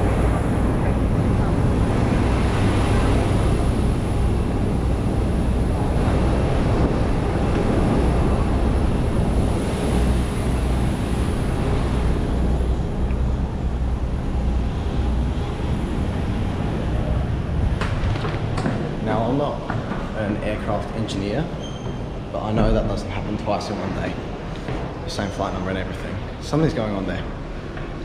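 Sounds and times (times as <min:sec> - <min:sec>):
jet airliner rumble: 0:00.0 - 0:28.0.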